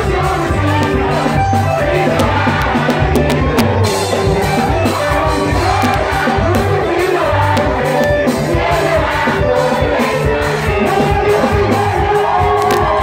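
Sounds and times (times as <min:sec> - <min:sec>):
choir singing: 0:00.0 - 0:13.0
deep bass line: 0:00.0 - 0:13.0.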